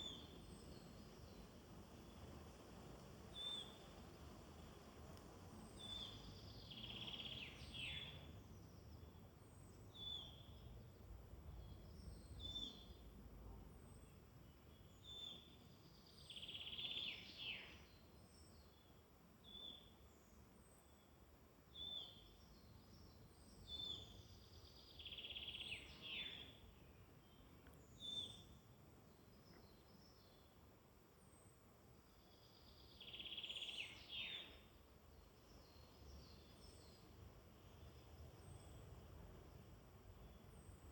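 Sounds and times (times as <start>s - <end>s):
songbird trilled song: 0.0s - 2.3s, 3.3s - 4.0s, 5.5s - 13.1s, 13.9s - 30.6s, 31.3s - 40.9s.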